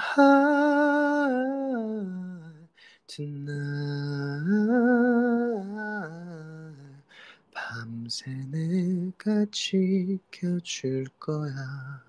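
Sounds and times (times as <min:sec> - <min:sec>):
man singing a cappella: 0:00.0 - 0:12.0.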